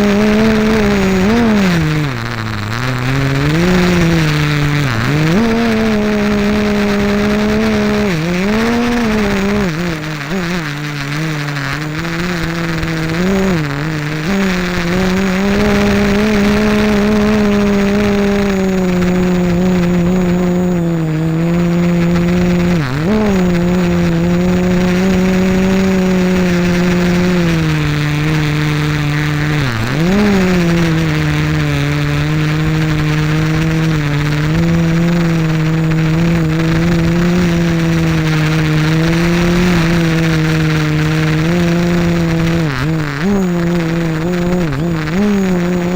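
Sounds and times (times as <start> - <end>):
quadcopter motors humming: 0.0 - 45.9.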